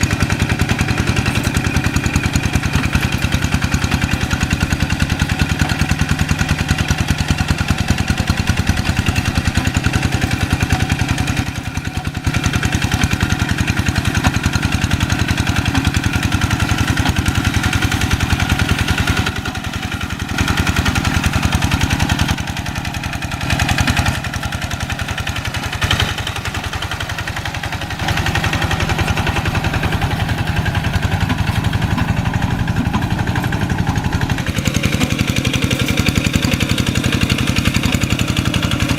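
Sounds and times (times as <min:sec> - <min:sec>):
hand tractor diesel engine: 0:00.0 - 0:38.9.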